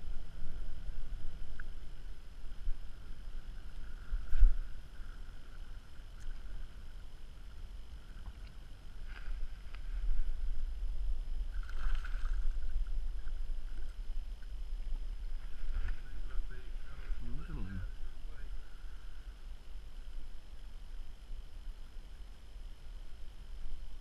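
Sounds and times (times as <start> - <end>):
faint steady whine: 0.0 - 24.0
wind rumbling on microphone: 0.0 - 24.0.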